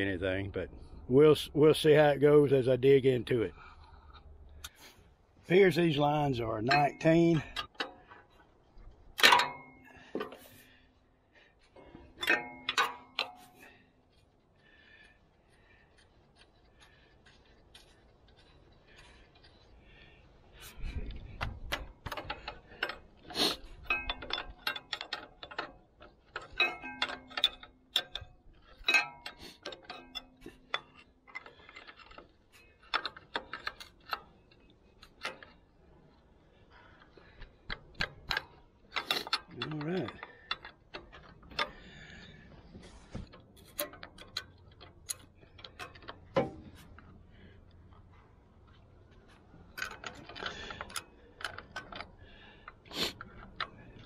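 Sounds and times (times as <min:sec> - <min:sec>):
wrenches clinking on metal: 0:05.5 - 0:54.0.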